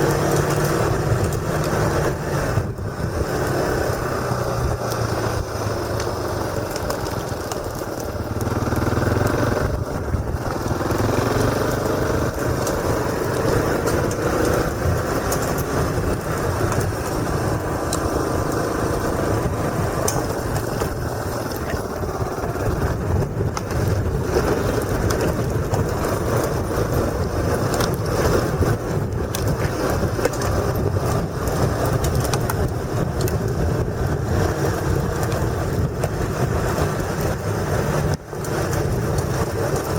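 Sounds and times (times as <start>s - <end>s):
motorcycle engine revving: 0.0s - 39.9s
road noise: 0.0s - 39.9s.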